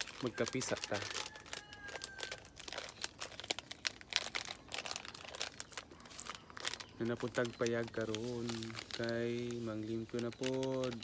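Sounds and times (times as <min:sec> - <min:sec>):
plastic sachet crinkling and tearing: 0:00.0 - 0:11.0.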